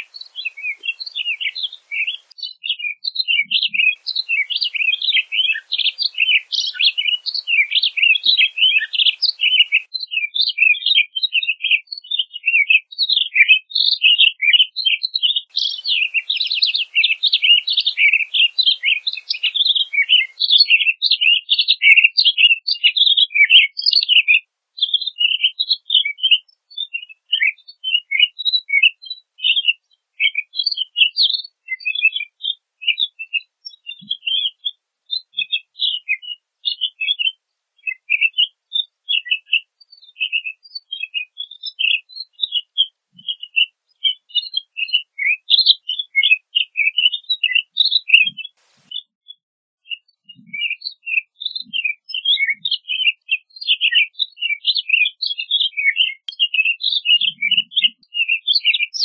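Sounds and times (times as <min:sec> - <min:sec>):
bird warbling song: 0:00.0 - 0:59.0.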